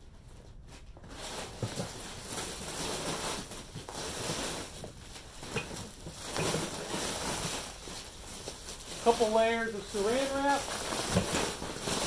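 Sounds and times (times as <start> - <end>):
plastic wrap crinkling and tearing: 0.8 - 12.0.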